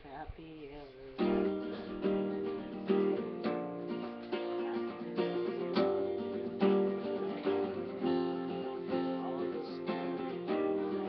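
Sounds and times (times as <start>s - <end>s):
acoustic guitar strumming: 1.2s - 11.0s.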